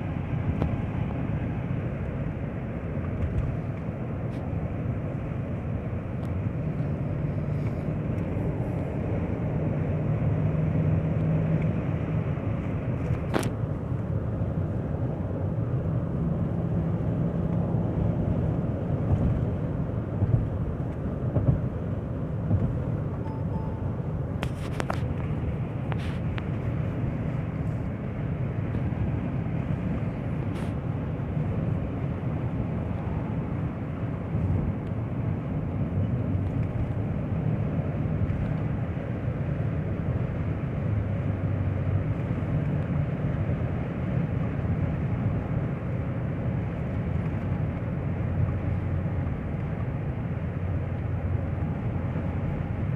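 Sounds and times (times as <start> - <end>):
car engine: 0.0 - 52.9
road noise: 0.0 - 52.9.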